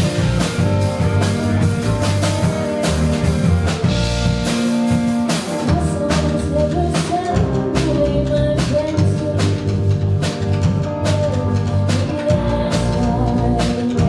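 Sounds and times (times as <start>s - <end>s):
drum kit beat: 0.0s - 14.0s
rock band playing: 0.0s - 14.0s.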